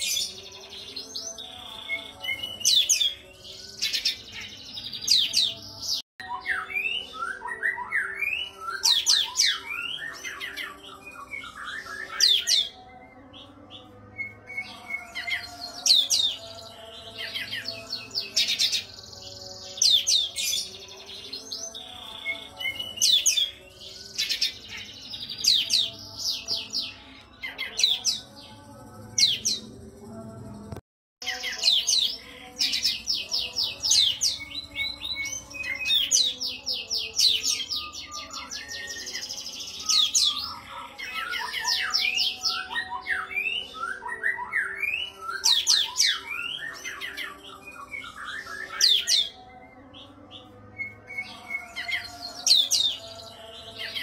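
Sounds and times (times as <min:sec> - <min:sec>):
bird singing chirps and trills: 0:00.0 - 0:54.0.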